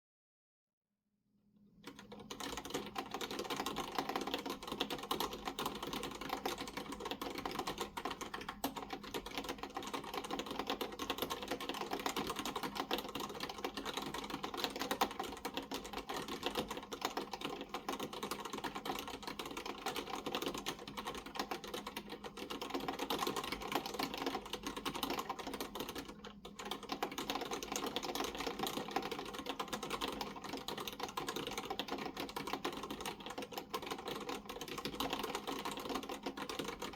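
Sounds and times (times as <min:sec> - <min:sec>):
fast keyboard typing: 0:01.9 - 0:36.9.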